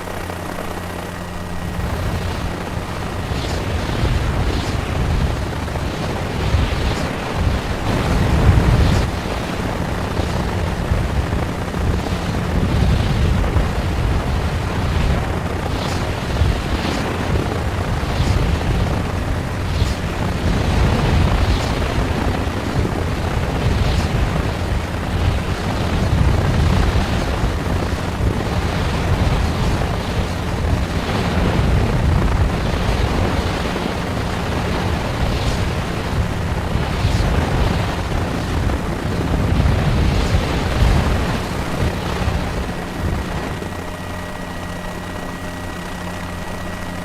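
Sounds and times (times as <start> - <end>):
helicopter rotor and engine rumble: 0.0 - 47.0.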